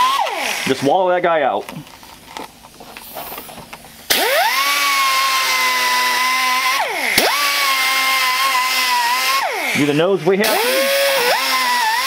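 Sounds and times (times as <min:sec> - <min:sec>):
rotary tool whining: 0:00.0 - 0:00.9, 0:02.1 - 0:12.0.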